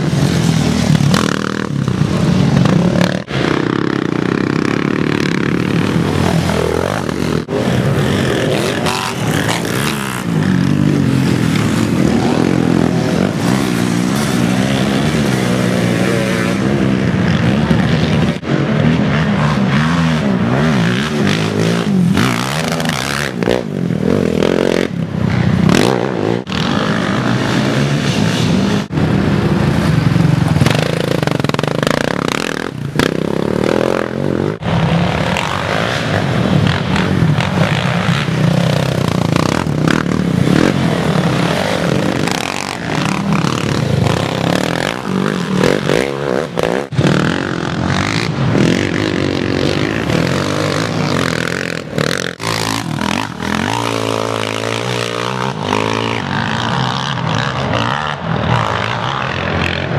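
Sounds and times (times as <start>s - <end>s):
quad engines revving: 0.0s - 59.9s.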